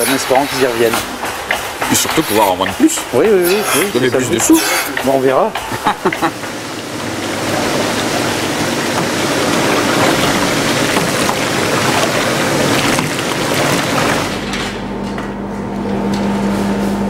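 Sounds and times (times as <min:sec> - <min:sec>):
milk rushing into a metal vat: 0:00.0 - 0:14.7
steady machine hum: 0:00.0 - 0:17.0.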